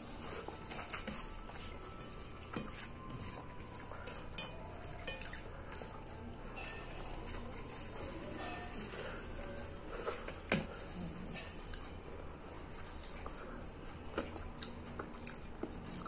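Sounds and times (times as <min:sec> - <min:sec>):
soft squishing of food: 0:00.0 - 0:16.0.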